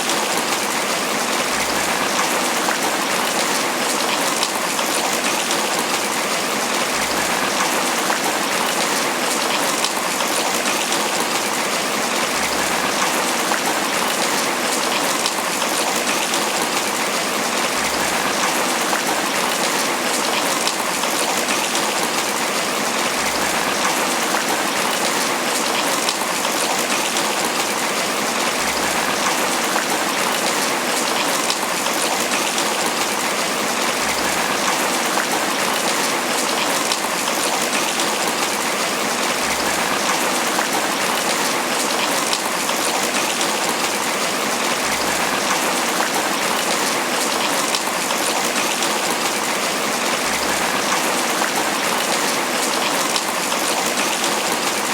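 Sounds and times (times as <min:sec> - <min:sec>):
rain pattering on leaves: 0:00.0 - 0:54.9.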